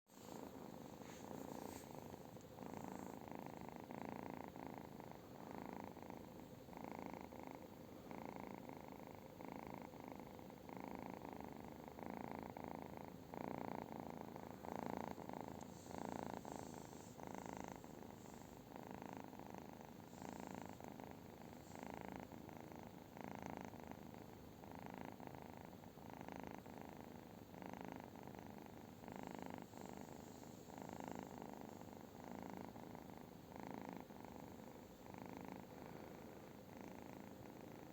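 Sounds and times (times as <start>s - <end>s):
cat purring: 0.1s - 37.9s.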